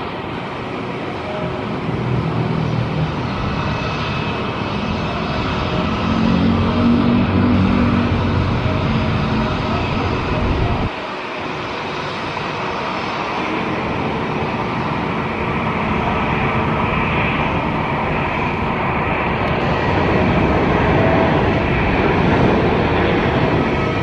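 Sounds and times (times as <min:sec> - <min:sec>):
jet engines rushing with whine: 0:00.0 - 0:24.0.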